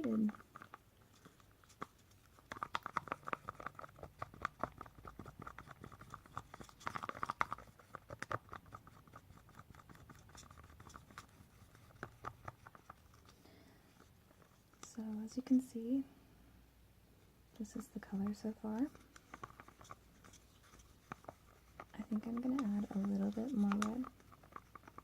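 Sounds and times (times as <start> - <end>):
stick scraping and clicking in cup: 0.1 - 13.4, 17.8 - 25.0.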